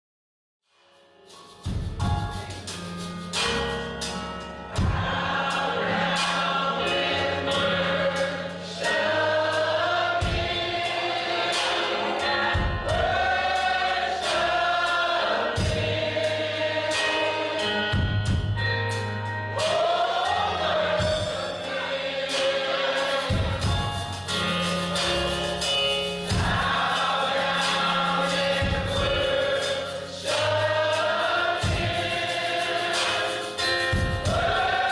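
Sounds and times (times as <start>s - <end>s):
drums steady beat: 1.3s - 6.6s, 7.5s - 18.7s, 19.6s - 34.9s
bass: 1.5s - 34.9s
gospel choir singing: 3.4s - 34.9s.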